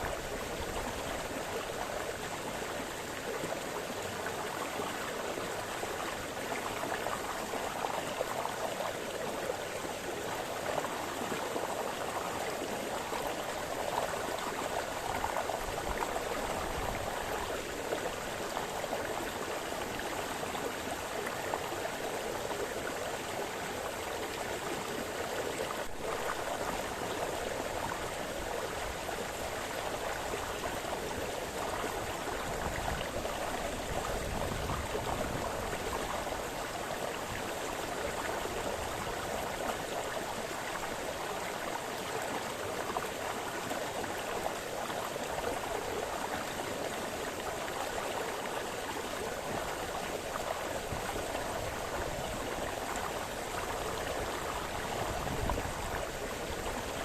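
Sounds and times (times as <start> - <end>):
brook water burbling over stones: 0.0 - 57.0.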